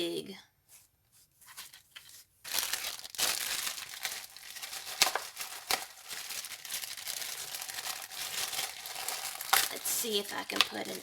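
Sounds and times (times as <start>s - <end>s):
artificial flowers crinkling: 0.8s - 11.0s.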